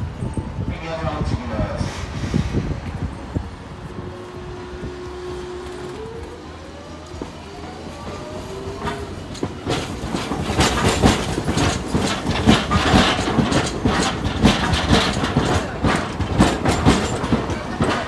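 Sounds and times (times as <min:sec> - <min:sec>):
tram wheels clattering over crossings: 0:00.0 - 0:18.0.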